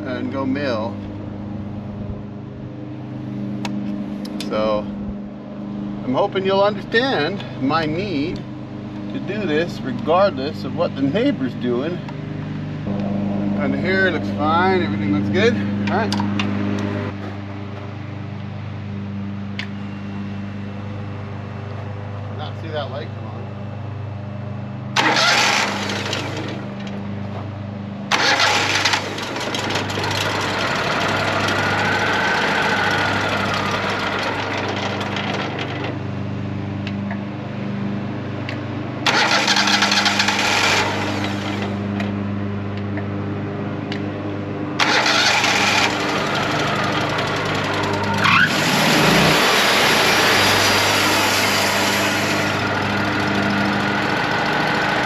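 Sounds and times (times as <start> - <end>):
sawmill engine running: 1.0 - 55.0.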